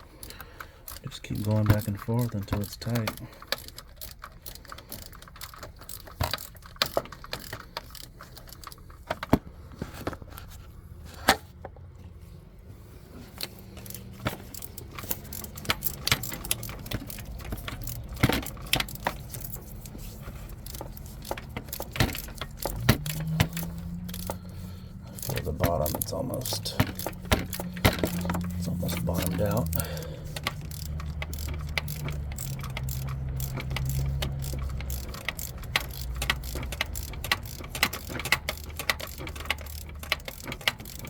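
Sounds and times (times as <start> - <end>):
metal tools clinking: 0.0 - 9.3, 13.4 - 41.0
ratchet clicking: 0.0 - 9.4, 13.4 - 41.0.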